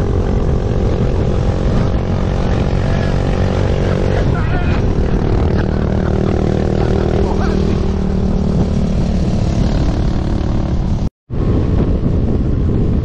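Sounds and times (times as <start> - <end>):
motorcycle engine running: 0.0 - 11.1
wind rushing over microphone: 0.0 - 13.0.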